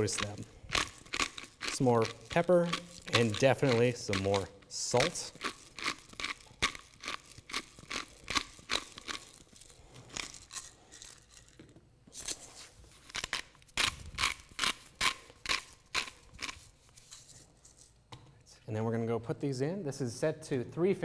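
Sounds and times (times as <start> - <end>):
spice grinder crunching: 0.0 - 17.9.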